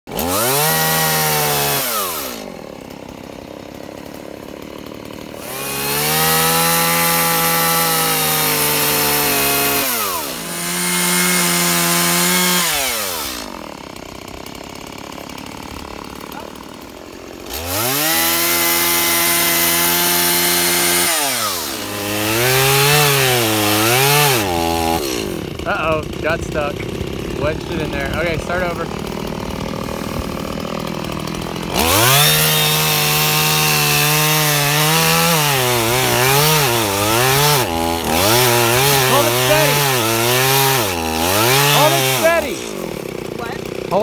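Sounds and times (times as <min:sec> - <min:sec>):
chainsaw revving: 0:00.1 - 0:44.0.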